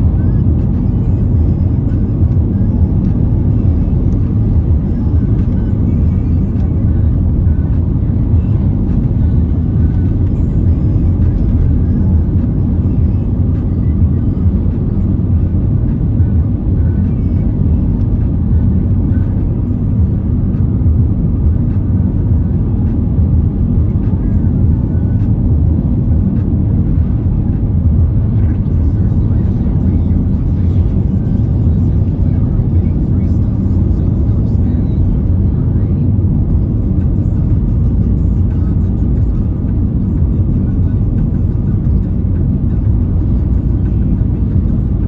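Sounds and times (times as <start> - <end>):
car interior road noise: 0.0 - 45.0.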